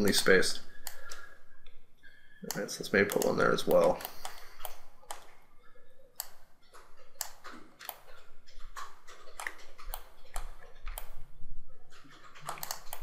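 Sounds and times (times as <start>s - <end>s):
mouse and keyboard clicks: 0.8s - 1.8s, 2.4s - 5.4s, 6.1s - 13.0s.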